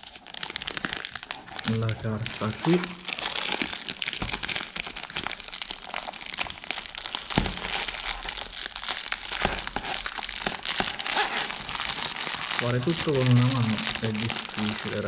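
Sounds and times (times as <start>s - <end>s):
plastic shrink-wrap crinkling: 0.0s - 15.0s.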